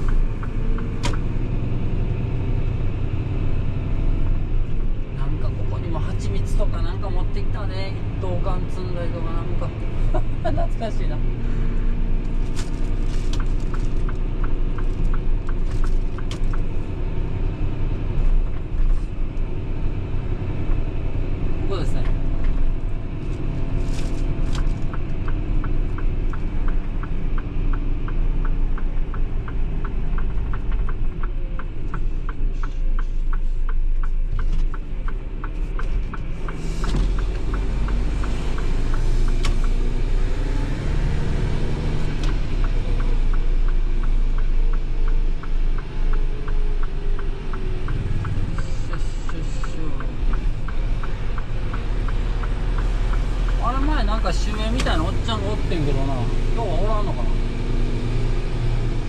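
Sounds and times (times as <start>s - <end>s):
truck engine and road rumble: 0.0s - 59.0s
turn signal ticking: 0.0s - 59.0s.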